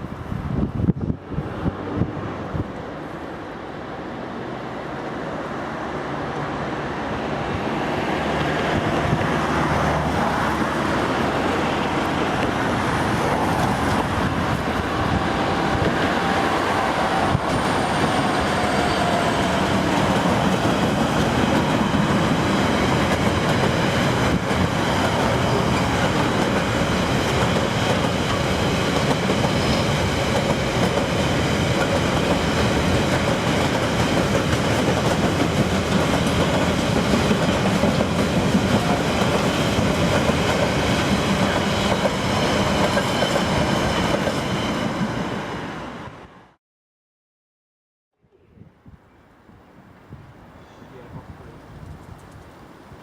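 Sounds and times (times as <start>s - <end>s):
diesel locomotive engine: 0.0s - 46.5s.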